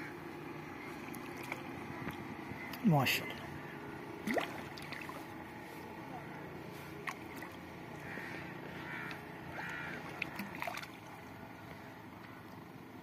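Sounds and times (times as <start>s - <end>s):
bird calling: 0.0s - 10.9s.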